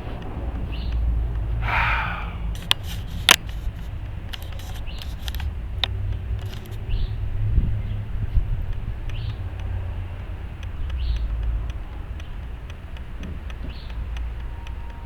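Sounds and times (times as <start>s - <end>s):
steady low rumble: 0.0s - 15.0s
sharp hand tool clicks: 0.1s - 15.0s.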